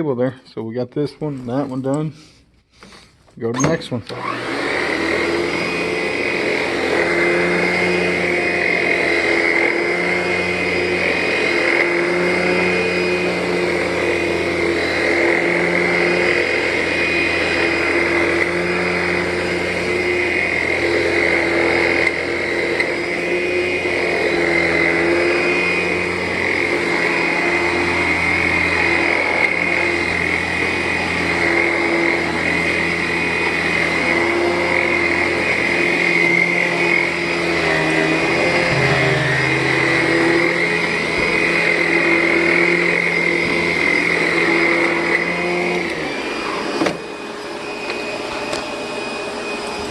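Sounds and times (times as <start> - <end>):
vacuum cleaner on carpet: 3.5 - 49.9.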